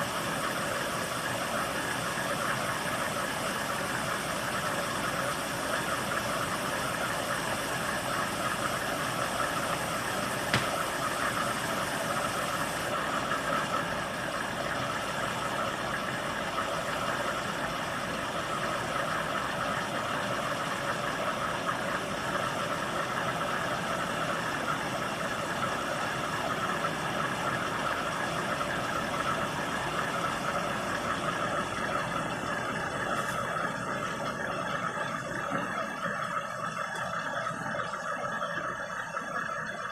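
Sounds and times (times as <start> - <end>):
washing machine churning: 0.0 - 39.9.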